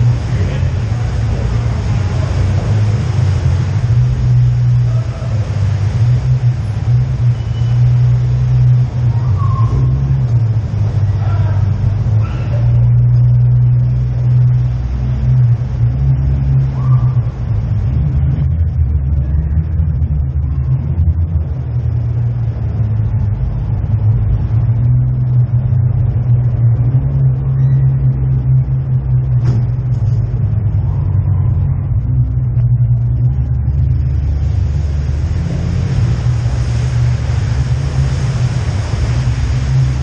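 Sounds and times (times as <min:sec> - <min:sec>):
car engine running low drone: 0:00.0 - 0:40.0.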